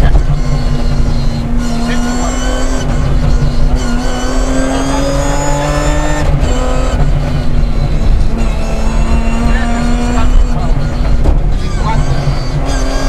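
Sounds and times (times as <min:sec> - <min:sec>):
car engine revving under load: 0:00.0 - 0:13.0.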